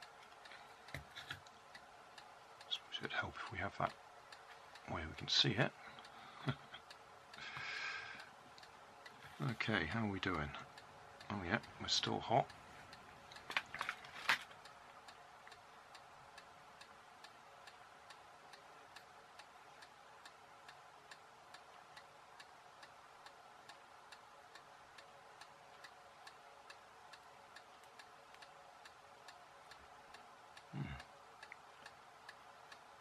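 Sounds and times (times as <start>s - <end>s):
faint clock ticking: 0.0s - 33.0s.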